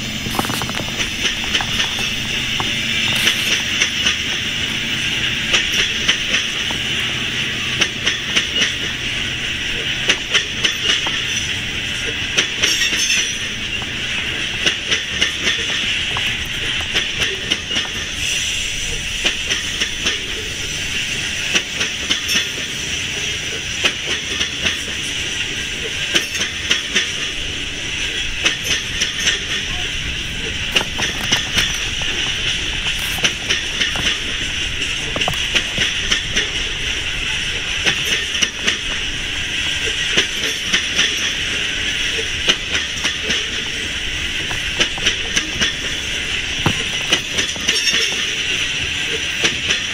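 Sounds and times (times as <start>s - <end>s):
coal train rolling past: 0.0s - 49.9s
steel wheels clicking on rails: 0.0s - 49.9s.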